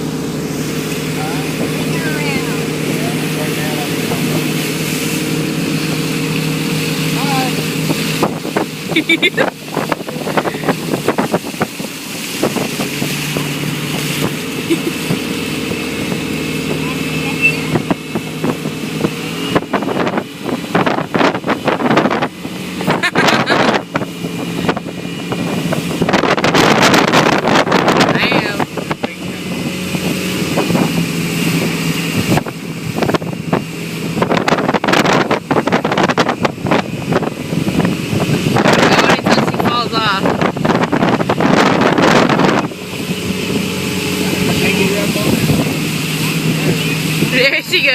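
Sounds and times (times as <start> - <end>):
boat engine running: 0.0 - 47.9
wind on microphone: 0.0 - 47.9.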